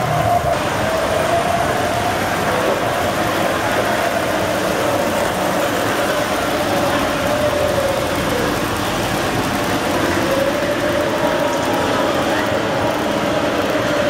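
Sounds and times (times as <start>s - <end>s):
model train motor hum: 0.0s - 14.0s
wheels rolling on track: 0.0s - 14.0s.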